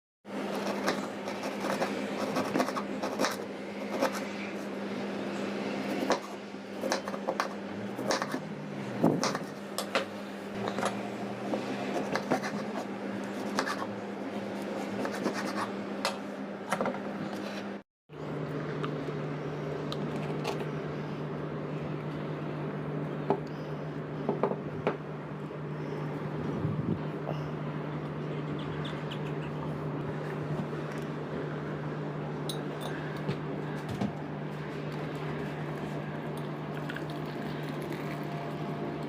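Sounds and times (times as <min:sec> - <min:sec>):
steady low hum: 0:00.3 - 0:39.0.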